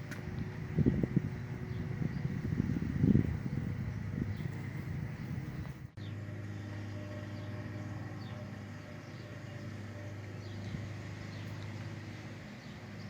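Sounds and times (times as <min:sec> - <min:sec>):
low rumble of distant traffic: 0:00.0 - 0:13.0.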